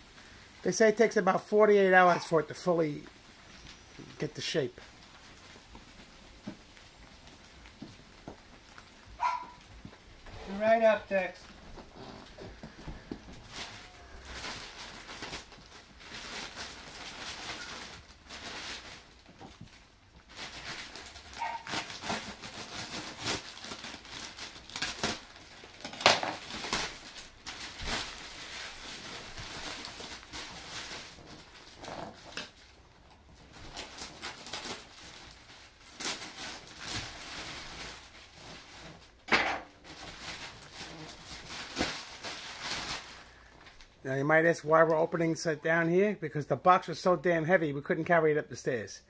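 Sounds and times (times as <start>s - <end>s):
plastic wrapping crinkling: 0.0s - 45.4s
sharp plastic crackles: 2.0s - 44.0s.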